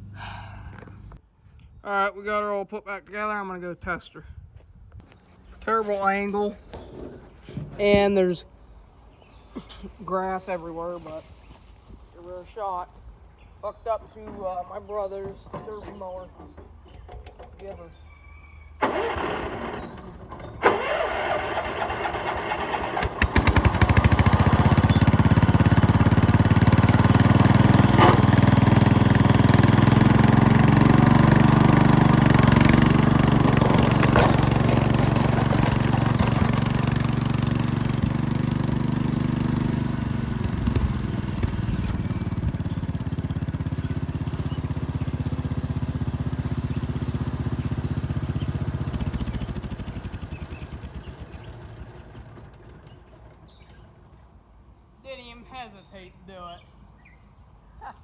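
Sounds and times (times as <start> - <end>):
garden tractor engine under load: 5.1 - 56.6.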